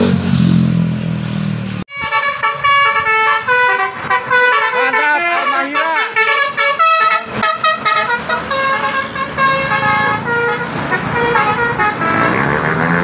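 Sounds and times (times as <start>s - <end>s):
bus engine: 0.0s - 13.0s
bus horn playing a tune: 1.9s - 13.0s.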